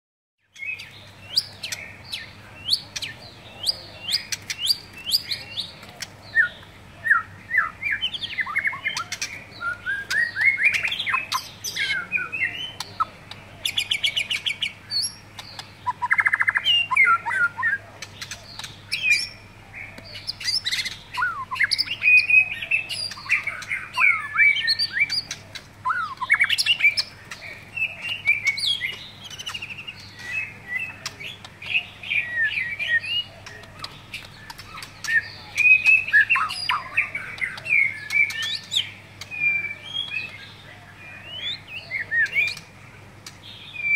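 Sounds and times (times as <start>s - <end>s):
bird singing: 0.4s - 43.9s.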